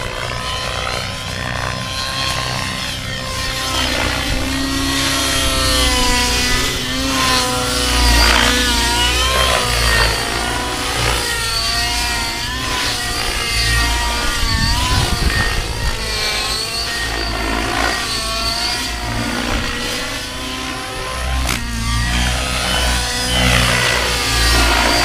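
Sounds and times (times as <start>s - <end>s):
model helicopter engine and rotors whining: 0.0s - 25.0s.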